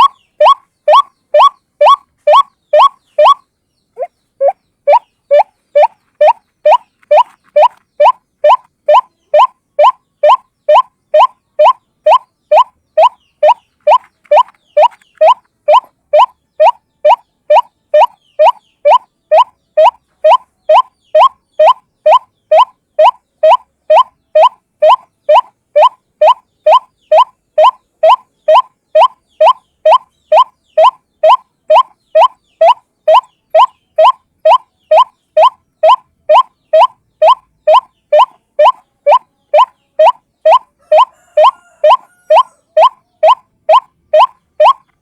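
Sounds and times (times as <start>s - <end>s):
waterhen calling upslurred notes: 0.0s - 45.0s.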